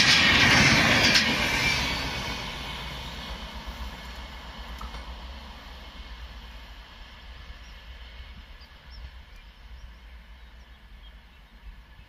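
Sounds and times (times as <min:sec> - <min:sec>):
distant train rumble and hiss: 0:00.0 - 0:12.0.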